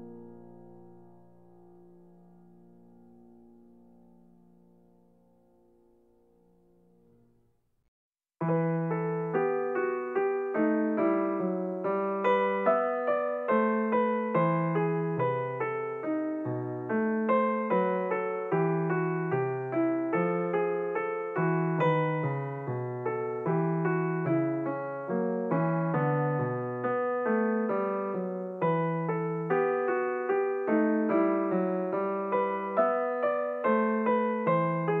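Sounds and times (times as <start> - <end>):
piano music: 0.0 - 4.9, 8.4 - 35.0.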